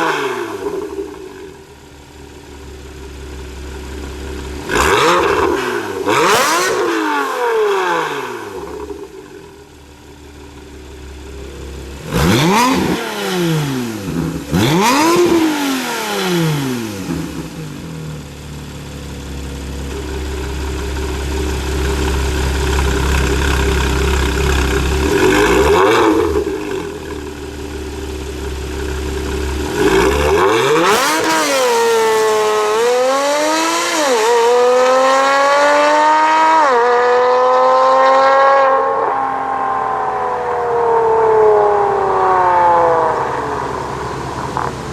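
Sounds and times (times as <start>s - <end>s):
car engine idling: 0.5s - 32.9s, 39.3s - 44.9s
car engine revving in blips: 4.0s - 9.6s, 10.6s - 44.9s.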